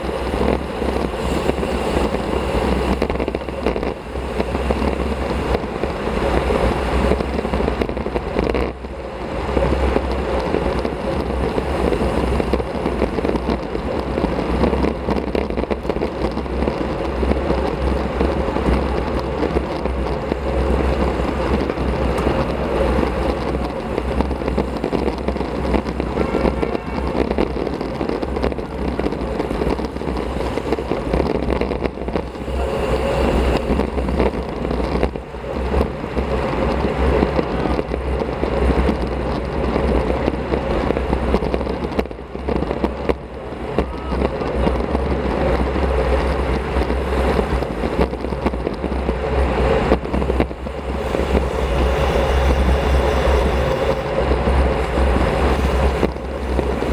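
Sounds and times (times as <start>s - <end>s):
bicycle road noise: 0.0s - 56.9s
wind rumble: 0.0s - 56.9s.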